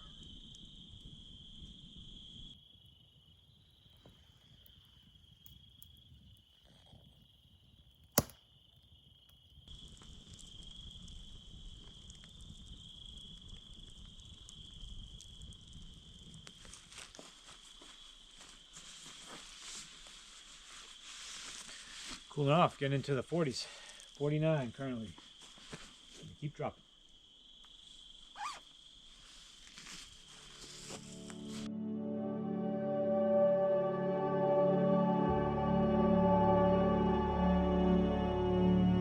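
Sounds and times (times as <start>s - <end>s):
crickets trilling: 0.0s - 32.1s.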